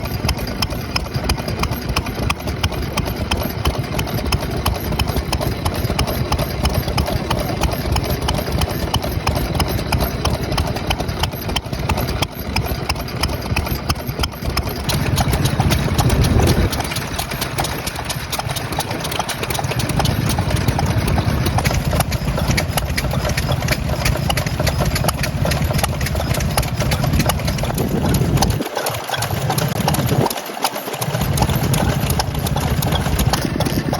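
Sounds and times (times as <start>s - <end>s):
stationary engine running: 0.0s - 33.9s.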